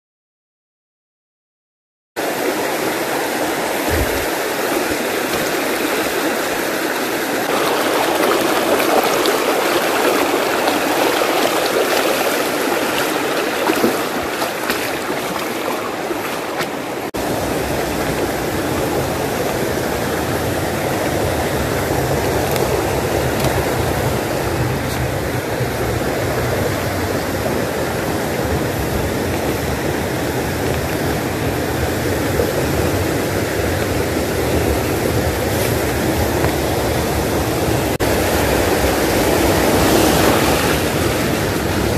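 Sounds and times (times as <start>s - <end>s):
stream running over stones: 2.2s - 41.9s.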